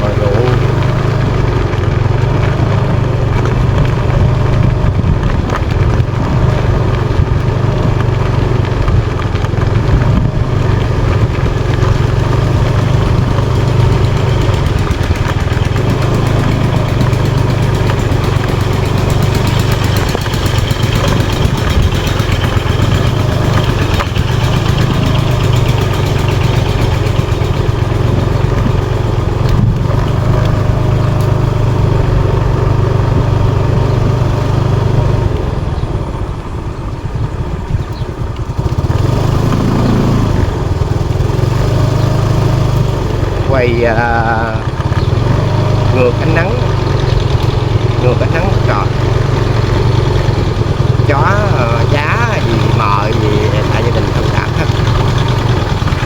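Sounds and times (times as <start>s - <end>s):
motorbike engine droning: 0.0s - 56.0s.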